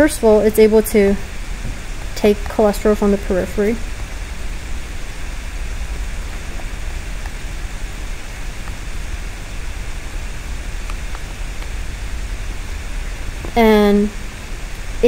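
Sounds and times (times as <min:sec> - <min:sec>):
background hiss: 0:00.0 - 0:15.0
low hum: 0:00.0 - 0:15.0.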